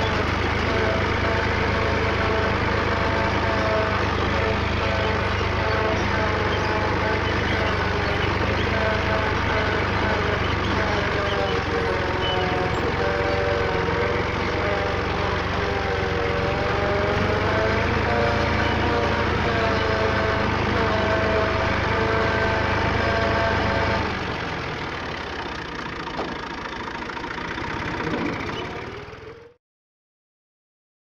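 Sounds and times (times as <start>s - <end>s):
tractor diesel engine running: 0.0s - 29.6s.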